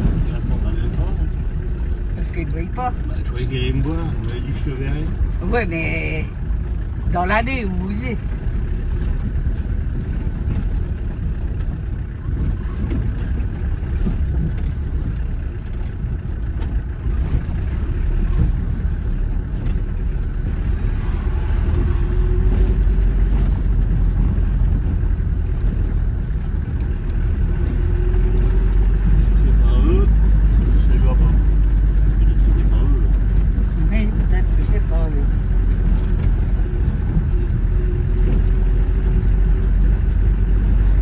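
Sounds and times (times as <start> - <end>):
car engine and tyre rumble: 0.0 - 41.0.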